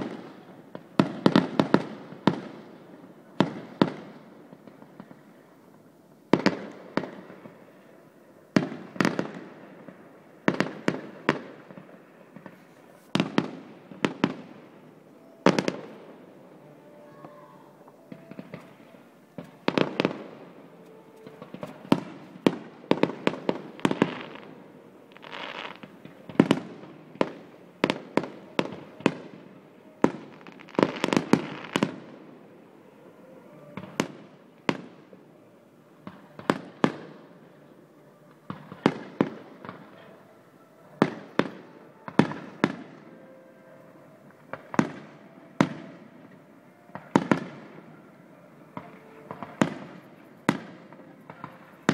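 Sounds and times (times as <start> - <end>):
fireworks crackling and hissing: 0.0 - 51.9.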